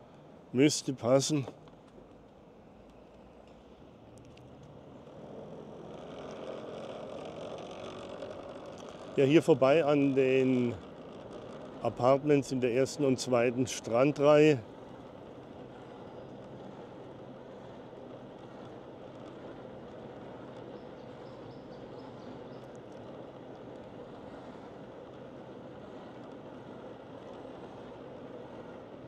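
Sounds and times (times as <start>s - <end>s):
car engine hum: 0.0s - 29.0s.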